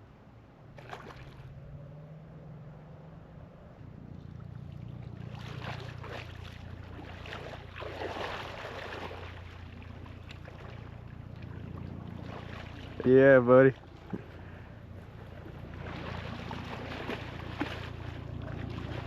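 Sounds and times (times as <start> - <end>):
boat motor humming: 0.0 - 19.0
rushing water and wind: 0.0 - 19.0.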